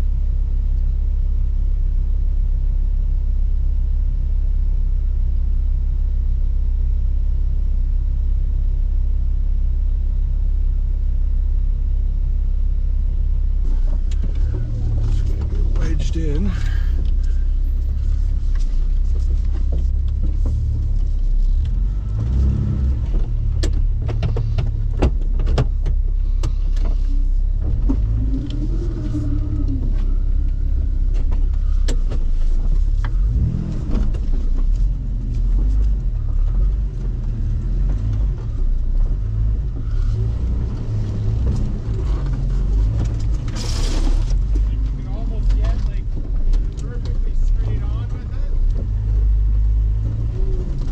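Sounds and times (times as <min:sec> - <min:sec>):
car engine rumbling: 0:00.0 - 0:50.9.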